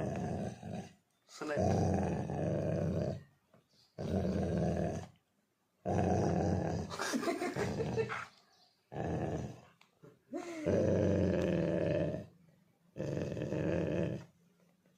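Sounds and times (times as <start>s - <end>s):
dog growling: 0.0s - 3.3s, 3.9s - 5.2s, 5.8s - 9.8s, 10.4s - 14.4s.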